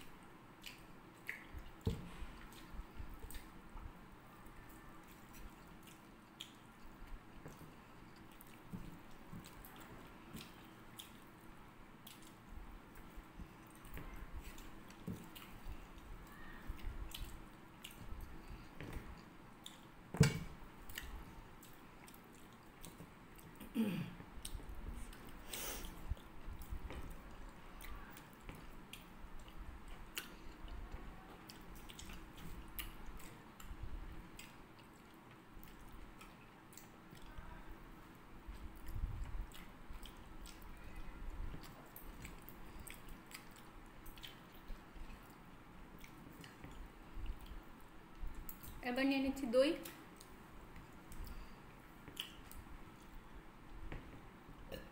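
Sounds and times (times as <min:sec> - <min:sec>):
people chewing food: 0:00.0 - 0:48.8, 0:49.8 - 0:54.9.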